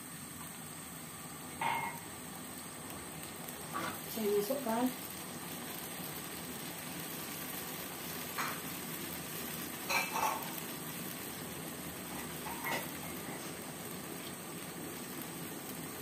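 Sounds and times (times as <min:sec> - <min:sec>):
sauce simmering with sizzle: 0:00.0 - 0:16.0.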